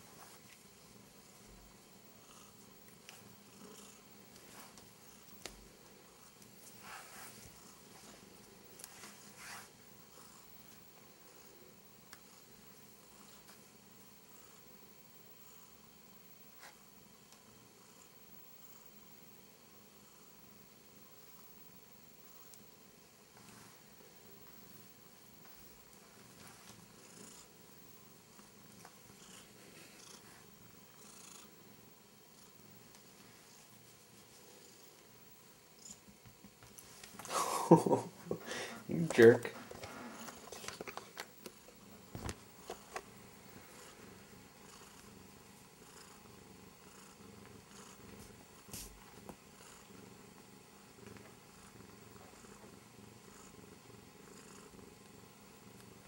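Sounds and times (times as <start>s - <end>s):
cat purring faintly: 0.0s - 56.0s.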